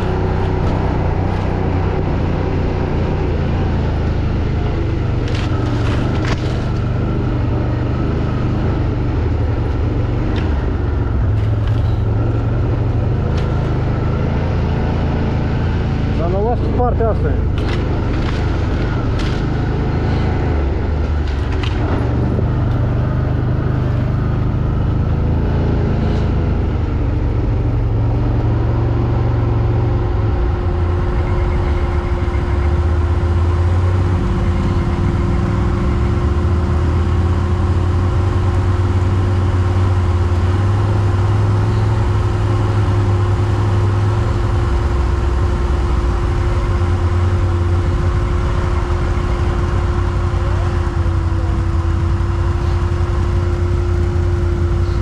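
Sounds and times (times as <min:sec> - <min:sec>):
quad bike engine running: 0:00.0 - 0:55.0
steady whine: 0:00.0 - 0:55.0.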